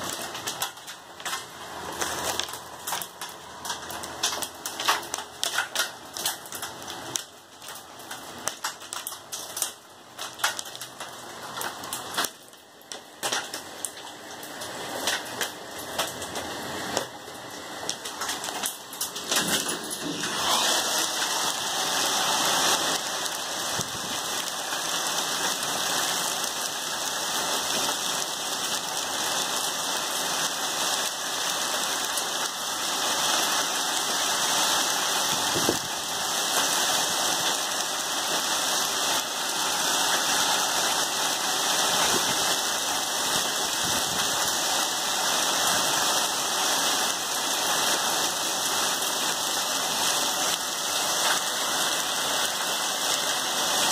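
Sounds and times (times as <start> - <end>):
heavy rain and hail: 0.0 - 53.9.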